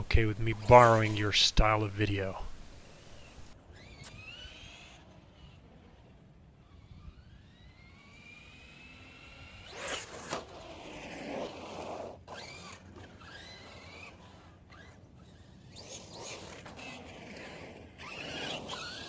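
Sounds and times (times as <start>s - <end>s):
electric motor whine: 2.6s - 19.0s.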